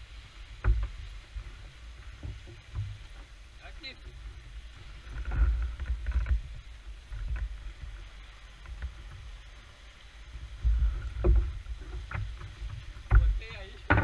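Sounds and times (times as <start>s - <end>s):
low rumbling bumps: 0.0s - 14.0s
water slapping and sloshing: 0.0s - 14.0s.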